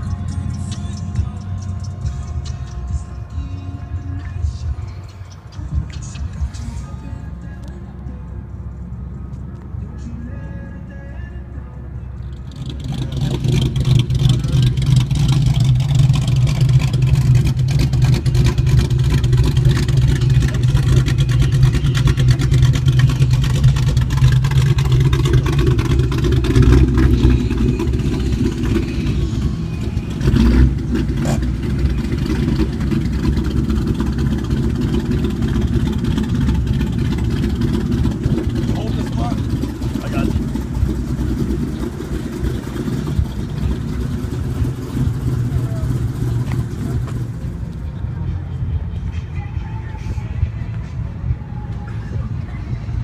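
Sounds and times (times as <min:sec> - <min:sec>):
car engine idling loudly: 0:00.0 - 0:10.3, 0:11.7 - 0:49.2.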